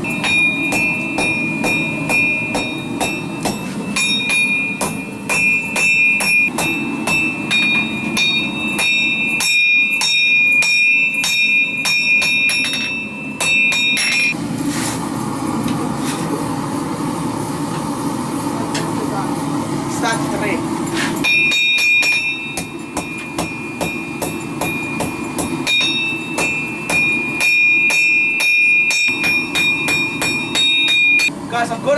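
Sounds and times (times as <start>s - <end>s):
hammer ringing on hot steel: 0.0s - 14.6s, 20.0s - 31.8s.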